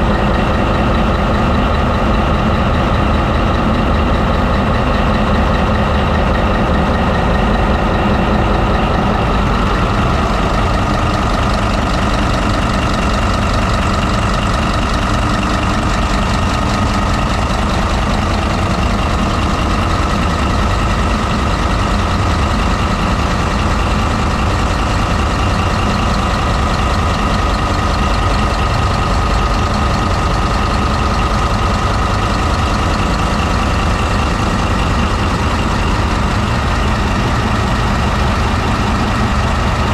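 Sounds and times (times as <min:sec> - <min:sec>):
diesel engine rumbling with whine: 0:00.0 - 0:39.9.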